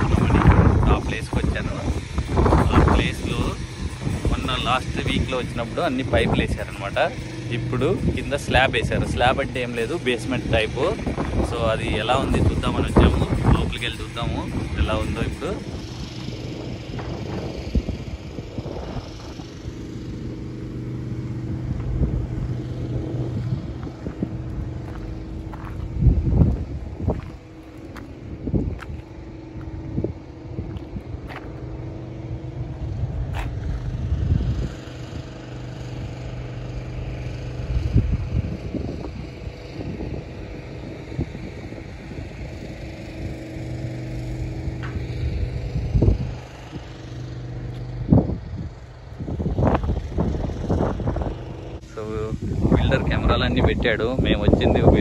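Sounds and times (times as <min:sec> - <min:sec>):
steady engine hum: 0:00.0 - 0:55.0
wind buffeting microphone: 0:00.0 - 0:55.0.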